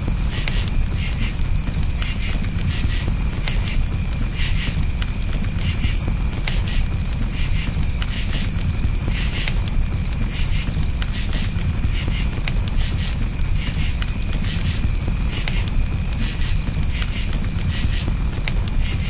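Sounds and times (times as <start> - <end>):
campfire crackling and popping: 0.0 - 19.0
crickets chirping: 0.0 - 19.0.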